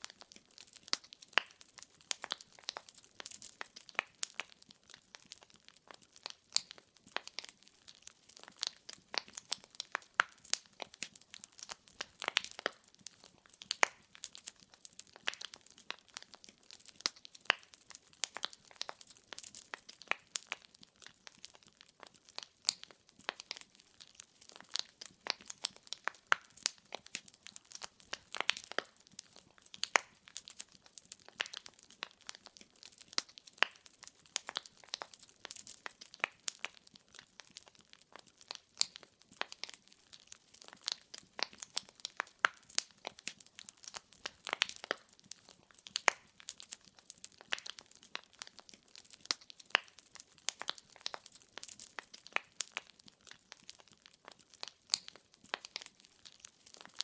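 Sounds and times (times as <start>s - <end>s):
logs crackling in a fireplace: 0.0s - 57.0s.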